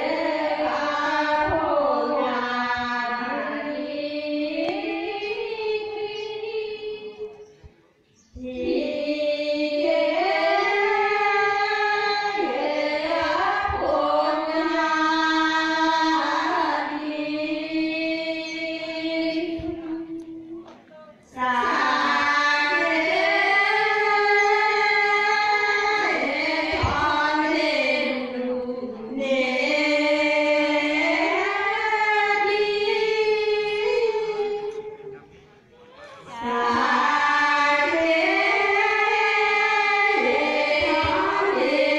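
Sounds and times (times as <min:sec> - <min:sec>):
women singing a chant together: 0:00.0 - 0:35.0, 0:36.2 - 0:41.9.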